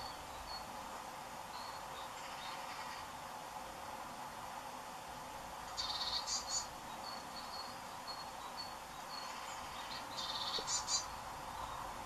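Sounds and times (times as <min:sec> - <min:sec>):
small birds calling: 0:00.0 - 0:03.3, 0:05.6 - 0:12.0.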